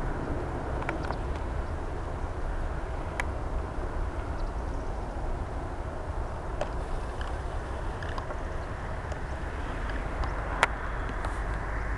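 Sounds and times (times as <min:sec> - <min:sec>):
distant jet engines rumble: 0:00.0 - 0:11.9.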